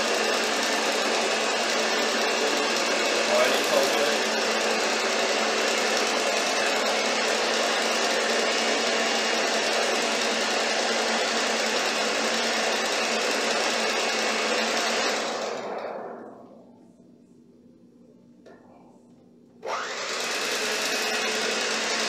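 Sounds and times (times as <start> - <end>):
stand mixer motor humming: 0.0 - 16.3, 19.6 - 22.0.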